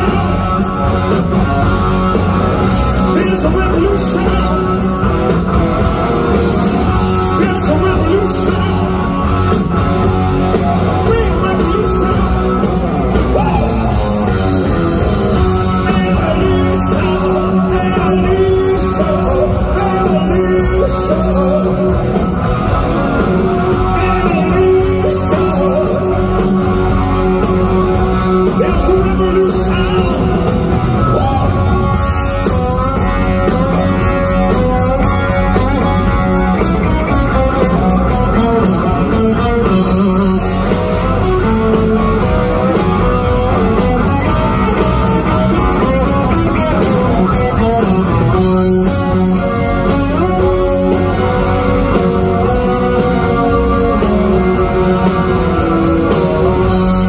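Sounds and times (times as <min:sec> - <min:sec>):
electric guitar: 0:00.0 - 0:57.0
live rock band: 0:00.0 - 0:57.0.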